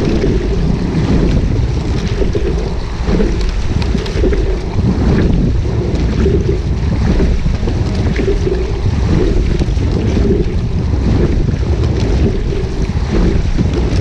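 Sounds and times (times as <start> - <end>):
water lapping against hull: 0.0 - 14.0
wind buffeting microphone: 0.0 - 14.0.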